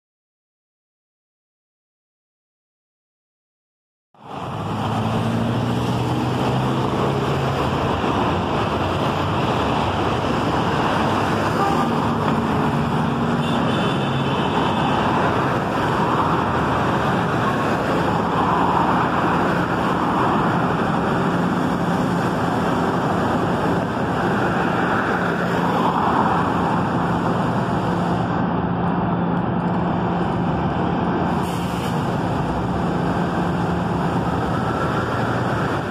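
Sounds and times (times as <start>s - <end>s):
cars passing close by: 4.2s - 35.9s.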